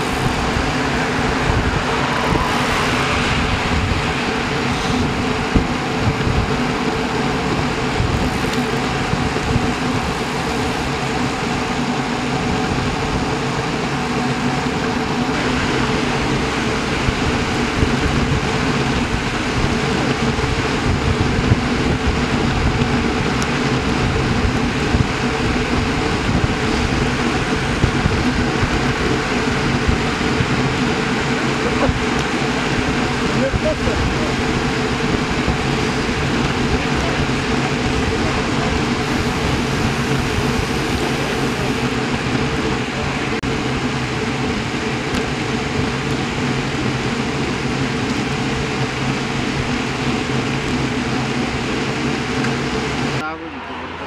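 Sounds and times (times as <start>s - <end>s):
air rushing past: 0.0s - 43.4s
tyres humming on asphalt: 0.0s - 54.0s.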